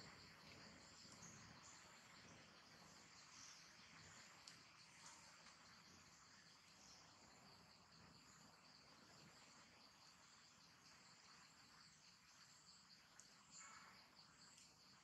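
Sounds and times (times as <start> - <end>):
faint insect chorus: 0.0 - 15.0.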